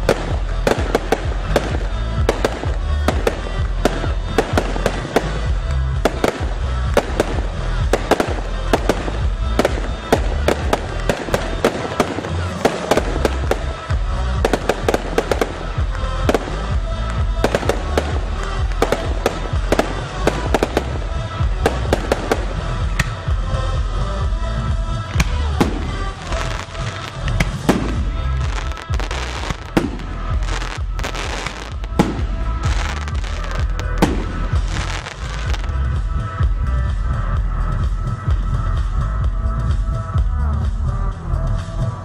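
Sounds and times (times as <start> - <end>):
loud music with heavy bass: 0.0 - 42.0.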